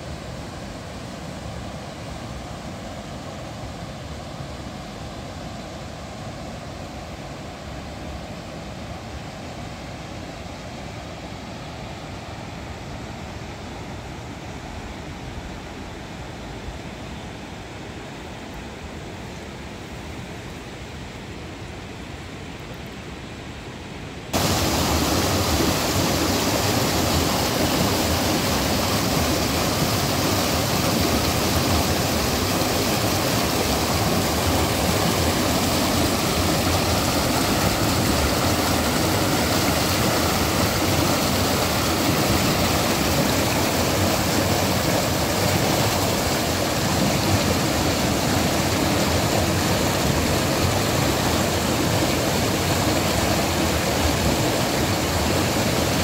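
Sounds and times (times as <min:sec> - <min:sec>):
water rushing over cascade: 0:00.0 - 0:56.0.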